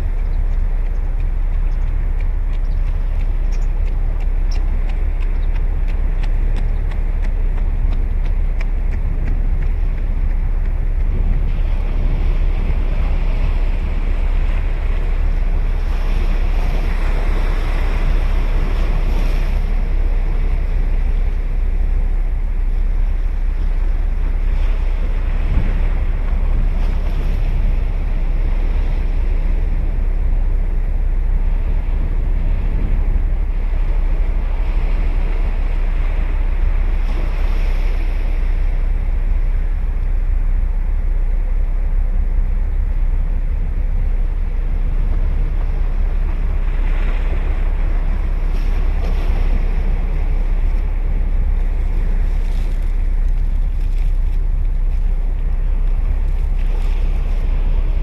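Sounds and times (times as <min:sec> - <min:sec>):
sea surf breaking: 0:00.0 - 0:58.0
wind rumbling on microphone: 0:00.0 - 0:58.0.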